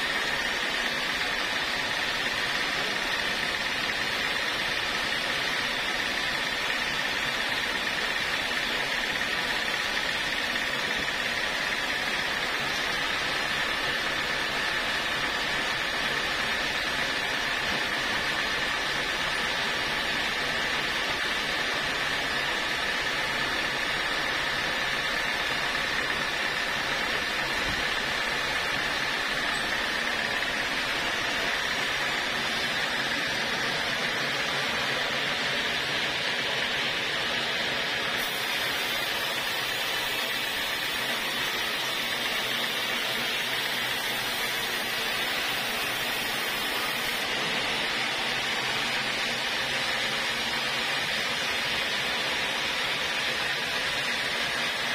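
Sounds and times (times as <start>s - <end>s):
band saw whining: 0.0s - 54.9s.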